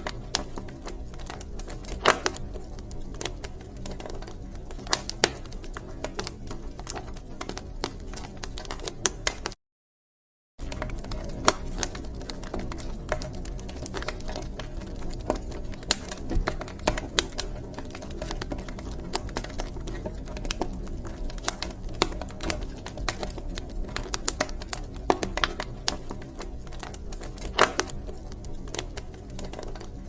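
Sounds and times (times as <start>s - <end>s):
wood fire crackling: 0.0s - 9.6s, 10.6s - 30.0s.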